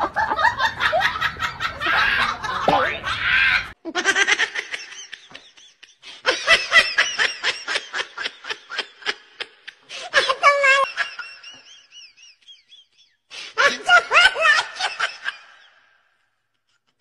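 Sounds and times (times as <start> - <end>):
person laughing: 0.0 - 15.8.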